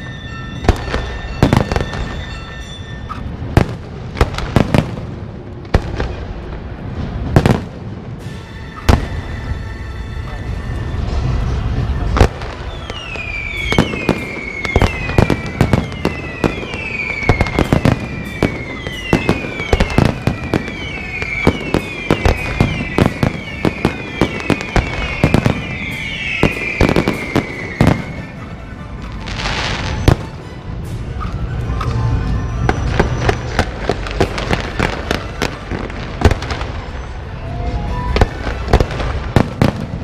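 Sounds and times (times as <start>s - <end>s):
fireworks whistling: 0.0s - 40.0s
firework bangs: 0.2s - 9.6s, 10.4s - 30.5s, 32.5s - 37.3s, 38.1s - 40.0s.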